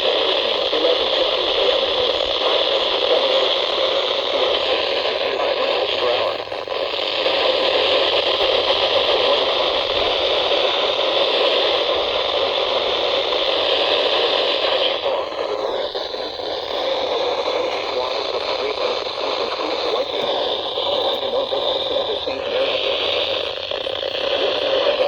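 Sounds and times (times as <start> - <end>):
faint broadcast voice: 0.0 - 25.0
radio static hiss: 0.0 - 25.0.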